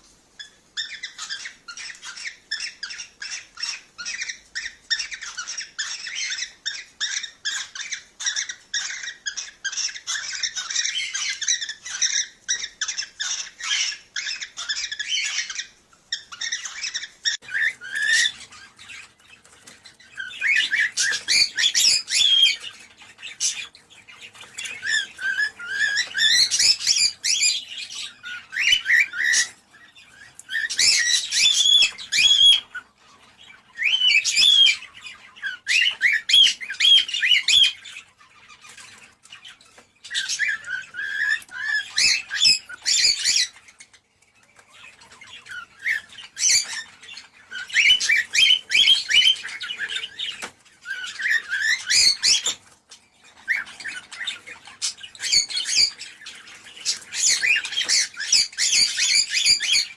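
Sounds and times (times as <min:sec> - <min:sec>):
cockatiels chirping: 0:00.0 - 0:59.9.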